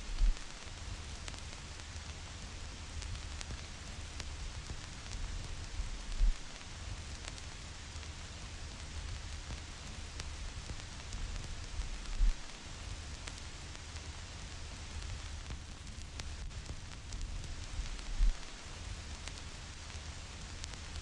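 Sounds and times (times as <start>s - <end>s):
vinyl record crackle: 0.0s - 21.0s.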